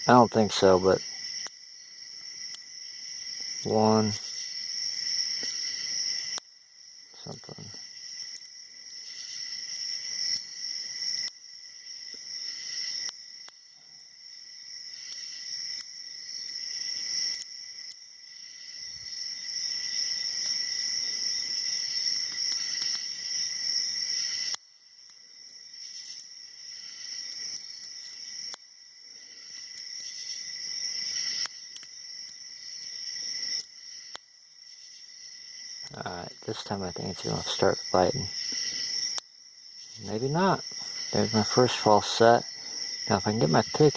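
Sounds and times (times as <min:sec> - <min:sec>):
high insect buzz: 0:00.0 - 0:43.9.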